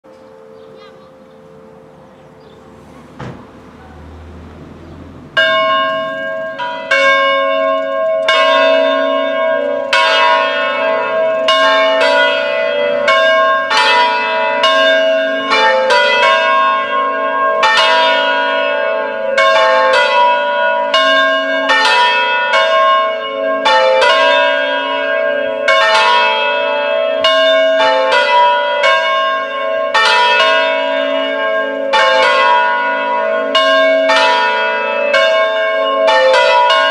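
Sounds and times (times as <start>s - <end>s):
church bells pealing: 0.1s - 36.9s.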